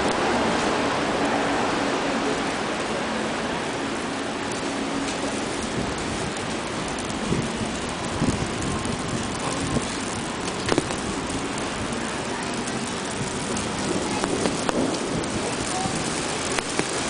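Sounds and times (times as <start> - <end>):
falling snow and wind hiss: 0.0 - 17.0
low traffic hum: 0.0 - 17.0.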